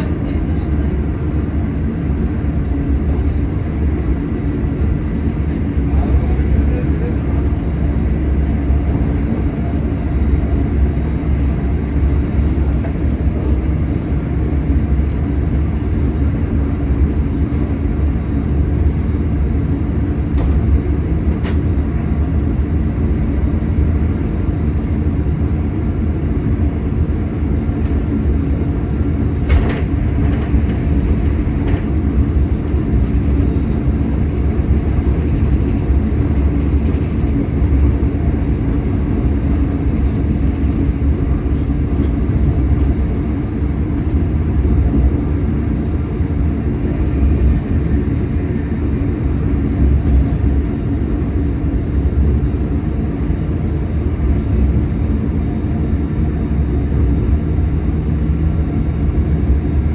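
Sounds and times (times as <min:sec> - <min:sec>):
train low rumble: 0:00.0 - 0:59.9.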